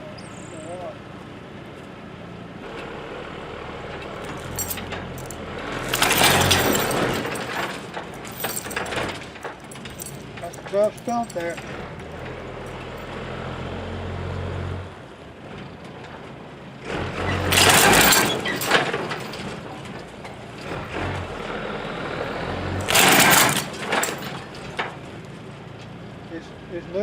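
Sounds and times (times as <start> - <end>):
backhoe engine working hard: 0.0 - 27.0.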